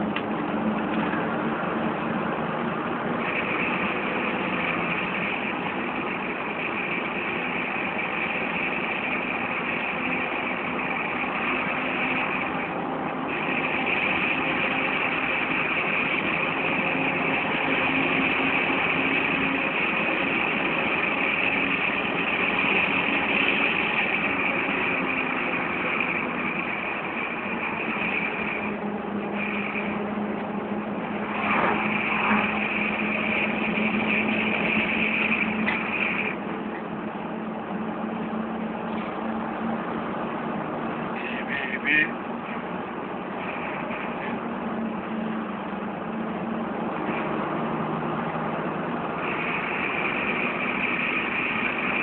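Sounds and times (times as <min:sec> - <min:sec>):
vehicle engine hum with road noise: 0:00.0 - 0:52.0.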